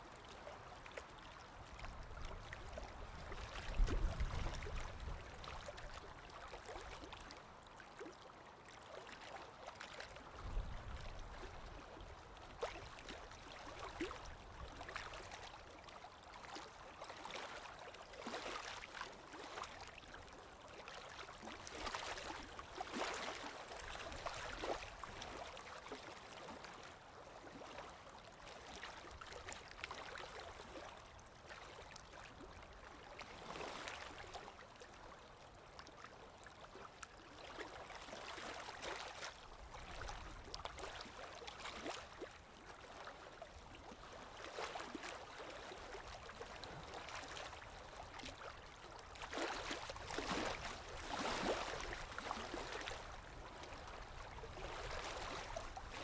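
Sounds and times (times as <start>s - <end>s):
stream babbling and trickling: 0.0s - 56.0s.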